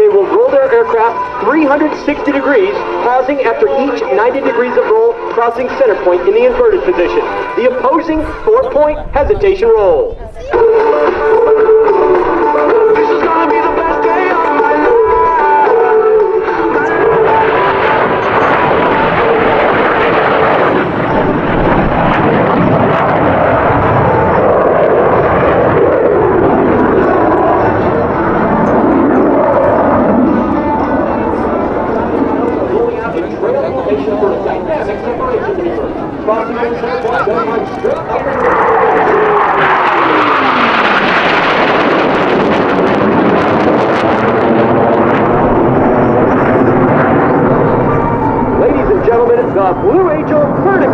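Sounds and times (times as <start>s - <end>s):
jet engines roaring: 0.0s - 50.9s.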